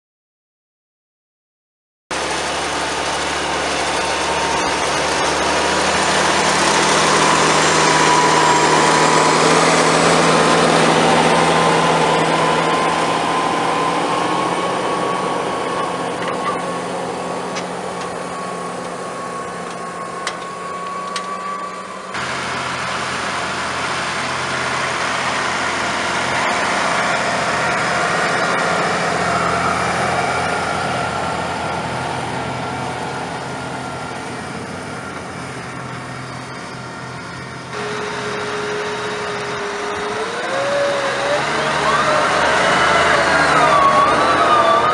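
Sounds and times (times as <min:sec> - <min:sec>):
tractor engine under load: 0:02.1 - 0:44.9
whine climbing in pitch: 0:02.2 - 0:44.9.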